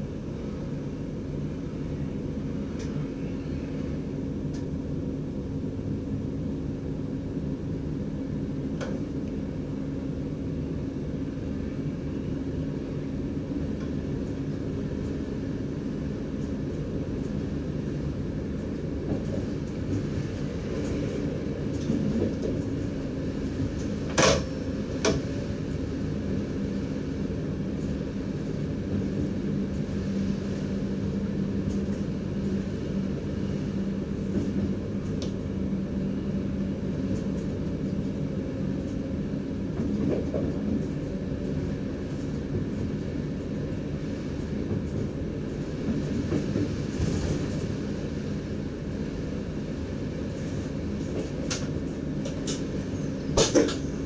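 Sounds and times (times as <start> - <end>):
train wheel and track rumble: 0.0 - 54.0.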